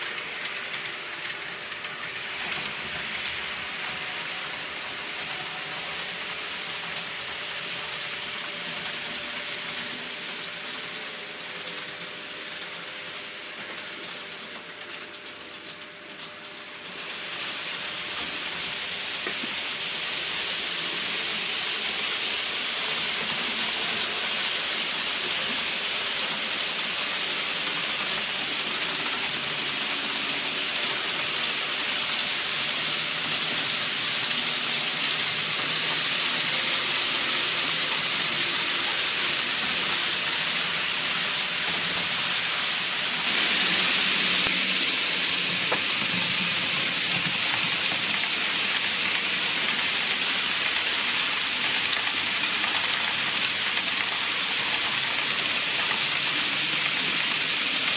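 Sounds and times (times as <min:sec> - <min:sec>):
model train wheels rolling: 0:00.0 - 0:57.9.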